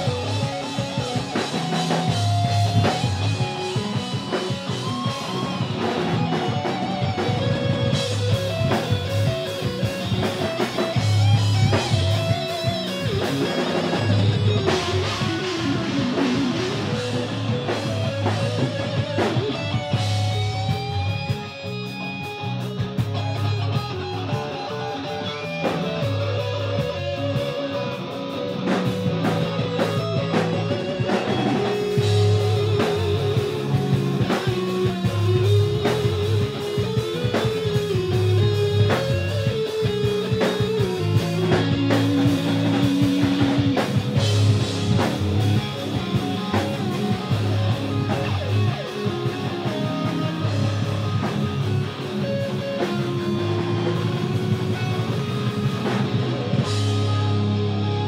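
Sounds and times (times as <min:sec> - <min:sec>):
drum kit: 0:00.0 - 0:58.0
lead electric guitar bending notes: 0:00.0 - 0:58.0
second electric guitar: 0:00.0 - 0:58.0.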